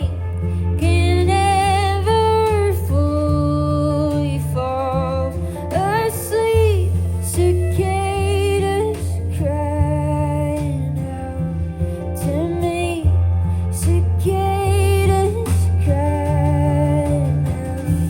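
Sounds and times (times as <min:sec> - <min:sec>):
acoustic guitar: 0:00.0 - 0:18.0
low bass notes: 0:00.0 - 0:18.0
woman singing slow song: 0:00.0 - 0:18.0.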